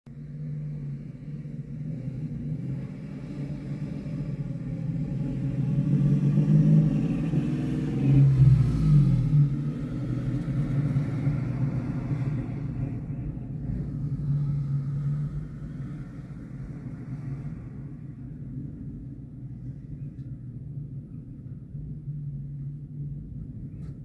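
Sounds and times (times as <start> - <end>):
vehicle rumble and hum: 0.0 - 24.0
wind through car windows: 0.4 - 24.0.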